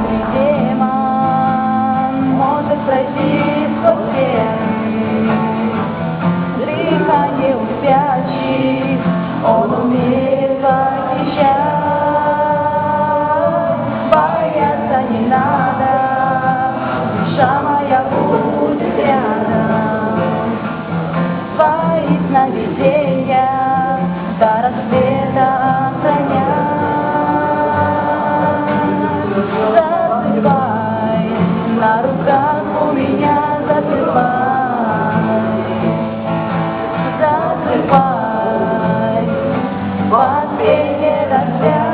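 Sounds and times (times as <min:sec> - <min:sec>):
female and male voices singing: 0:00.0 - 0:41.9
plucked guitar: 0:00.0 - 0:41.9.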